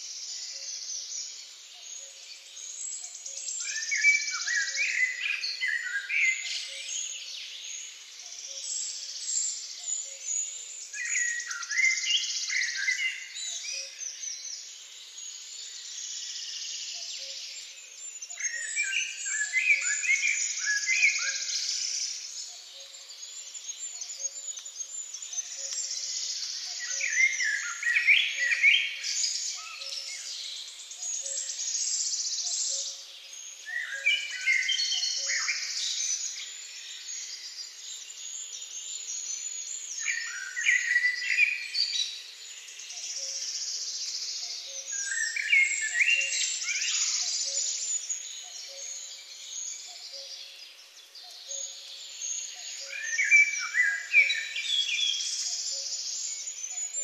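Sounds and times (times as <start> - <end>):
blackbird whistled song: 0.0 - 57.0
small birds twittering: 0.0 - 57.0.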